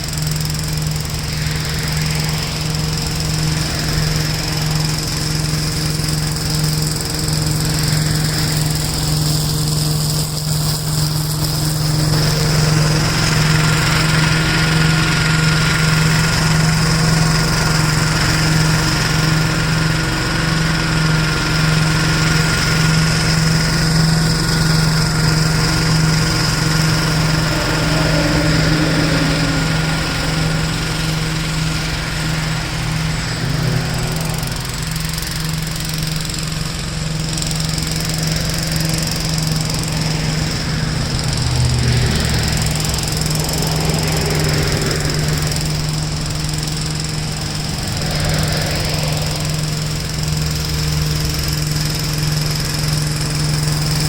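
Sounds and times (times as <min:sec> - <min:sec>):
mower mulching nuts and leaves: 0:00.0 - 0:54.0
thin steady whine: 0:00.0 - 0:54.0
tractor engine running: 0:00.0 - 0:54.0.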